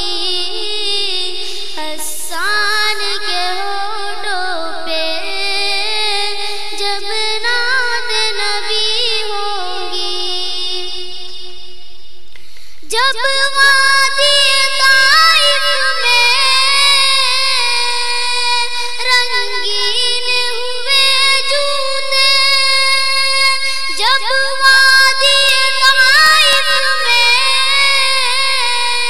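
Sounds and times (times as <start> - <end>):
child singing: 0.0 - 11.7, 12.9 - 29.0.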